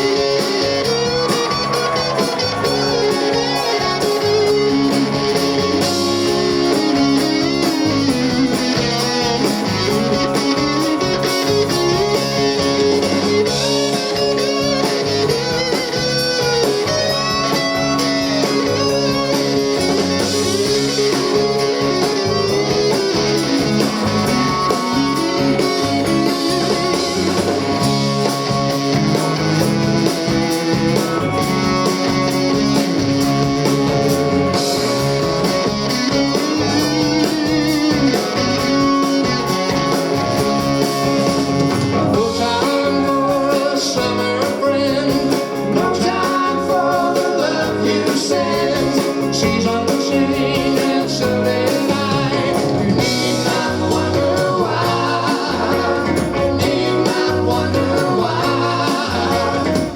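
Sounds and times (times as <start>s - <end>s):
electric guitar bending notes: 0.0s - 59.9s
live rock band playing: 0.0s - 59.9s.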